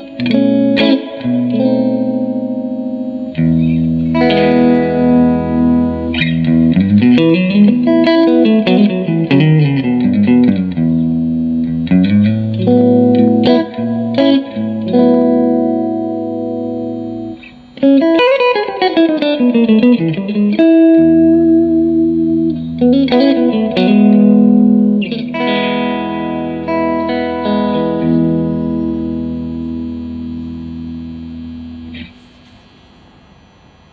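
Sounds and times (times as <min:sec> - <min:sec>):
clean electric guitar playing: 0:00.0 - 0:32.6.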